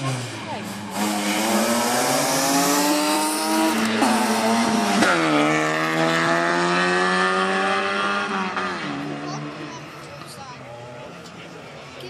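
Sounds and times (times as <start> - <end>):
rally car engine revving: 0.0 - 11.9.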